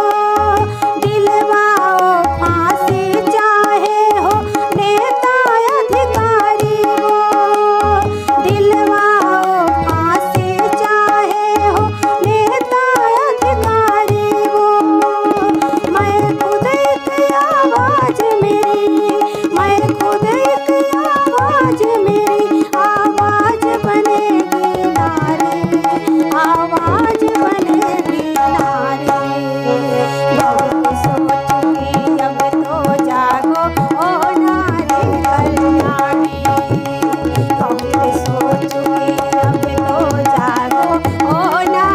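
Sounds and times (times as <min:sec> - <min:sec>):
harmonium: 0:00.0 - 0:41.9
tabla beat: 0:00.0 - 0:41.9
woman singing: 0:00.0 - 0:41.9.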